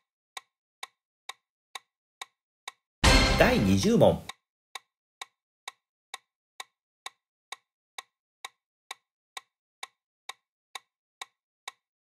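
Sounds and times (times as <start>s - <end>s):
timer ticking: 0.4s - 11.8s.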